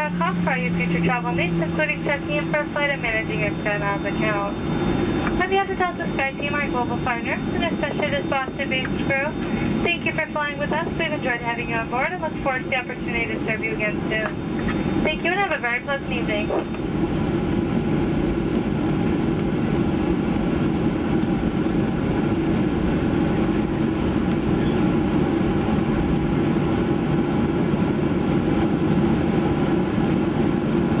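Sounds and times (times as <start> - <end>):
low aircraft cabin rumble: 0.0 - 31.0.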